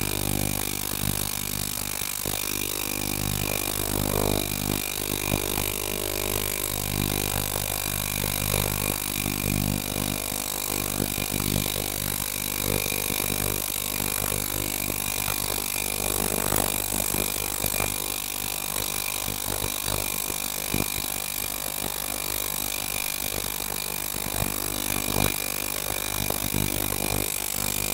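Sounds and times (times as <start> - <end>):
ultrasonic cleaner hiss and buzz: 0.0 - 27.9.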